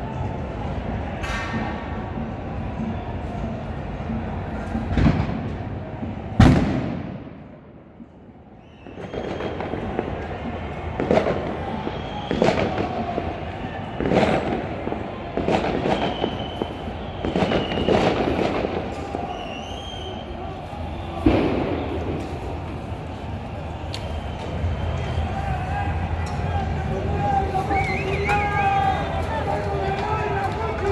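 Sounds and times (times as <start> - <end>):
noisy background: 0.0 - 30.9
fireworks bangs: 4.7 - 30.9.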